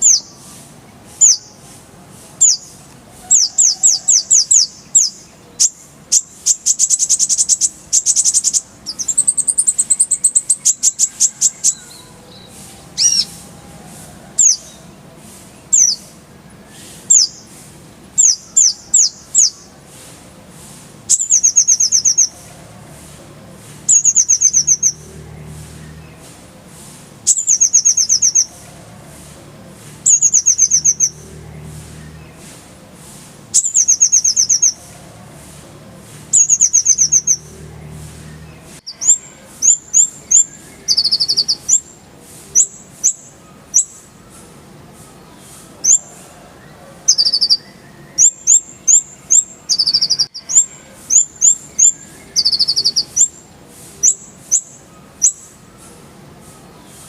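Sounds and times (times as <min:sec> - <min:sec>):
bird trills and chirps: 0:00.0 - 0:00.6, 0:01.2 - 0:01.7, 0:02.4 - 0:13.7, 0:14.3 - 0:15.0, 0:15.6 - 0:17.5, 0:18.2 - 0:19.8, 0:21.1 - 0:23.2, 0:23.8 - 0:26.4, 0:27.3 - 0:29.2, 0:30.0 - 0:32.6, 0:33.5 - 0:35.6, 0:36.2 - 0:46.2, 0:46.8 - 0:57.0.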